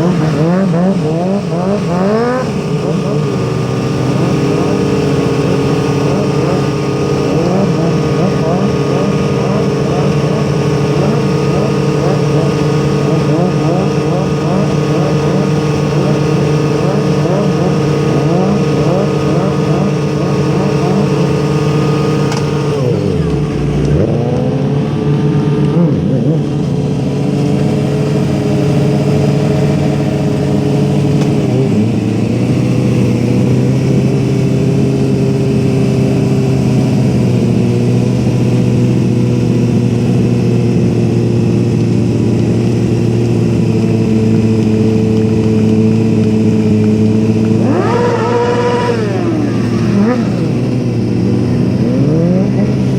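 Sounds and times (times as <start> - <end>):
vehicle engines revving: 0.0 - 52.9.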